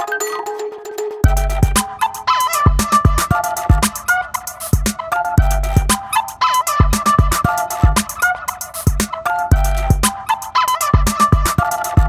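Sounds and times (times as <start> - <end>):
music with drum beat and melody: 0.0 - 12.0.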